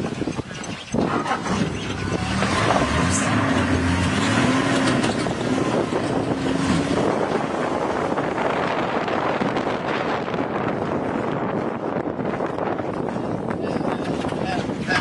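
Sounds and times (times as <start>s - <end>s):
vehicle engine running: 0.0s - 13.1s
wind noise on microphone: 0.0s - 15.0s.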